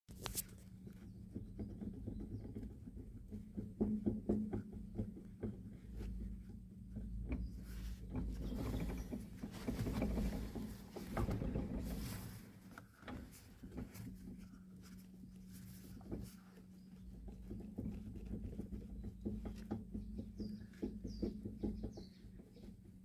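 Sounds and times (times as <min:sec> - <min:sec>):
wheel knocking and clicking: 0:00.6 - 0:23.0.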